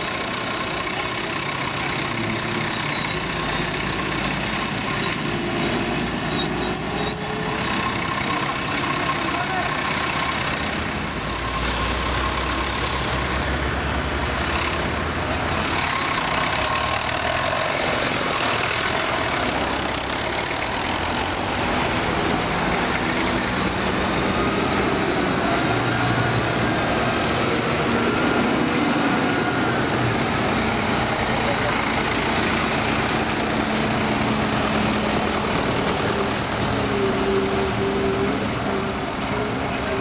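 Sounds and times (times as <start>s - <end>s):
diesel tractors driving past: 0.0s - 40.0s.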